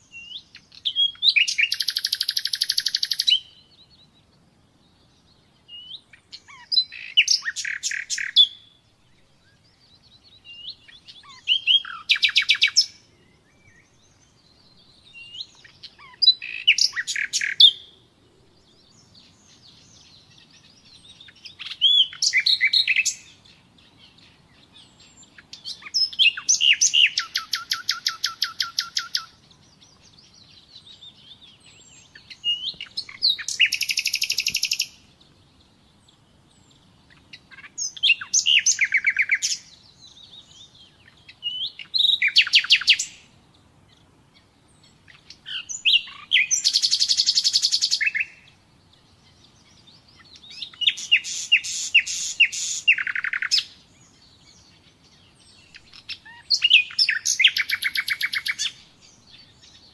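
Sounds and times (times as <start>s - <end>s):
nightingale singing trills: 0.0s - 59.9s.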